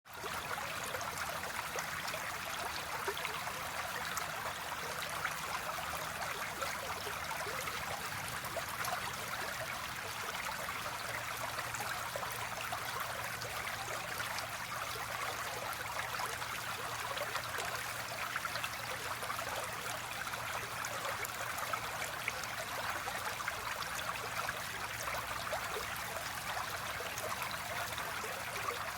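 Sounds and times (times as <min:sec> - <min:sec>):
stream babbling over stones: 0:00.1 - 0:28.9.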